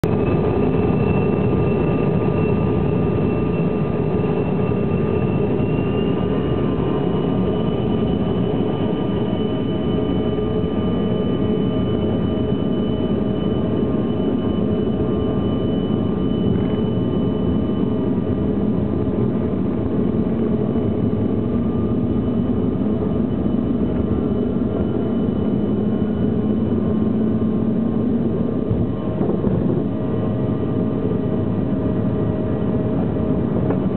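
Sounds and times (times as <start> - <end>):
jet engines at takeoff power: 0.0 - 33.9.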